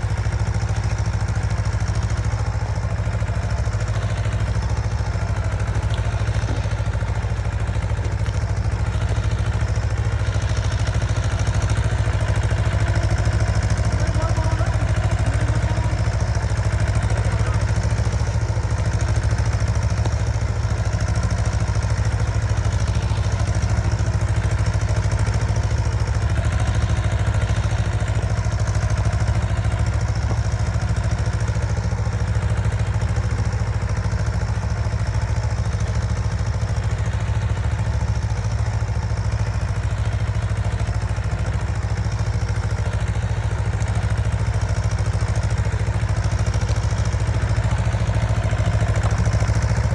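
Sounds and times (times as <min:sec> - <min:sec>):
diesel tractor engines straining: 0:00.0 - 0:49.9.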